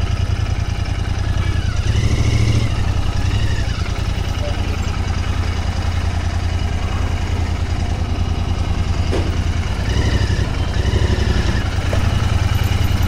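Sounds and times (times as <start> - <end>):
motorcycle engine low revs: 0.0 - 13.0.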